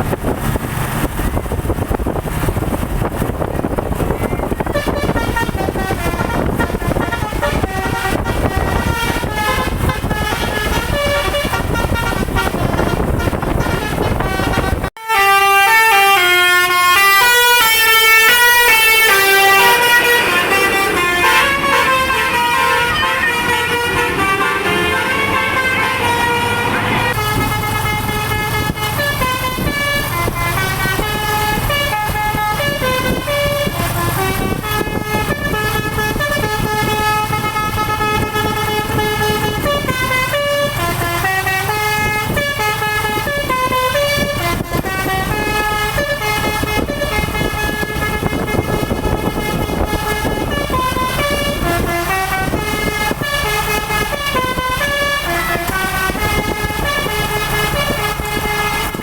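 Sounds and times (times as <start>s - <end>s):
bus horn playing a tune: 1.3s - 59.0s.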